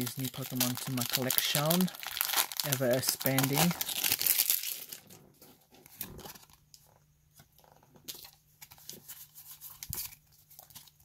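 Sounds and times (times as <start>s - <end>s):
cards shuffling and rustling: 0.3s - 11.0s.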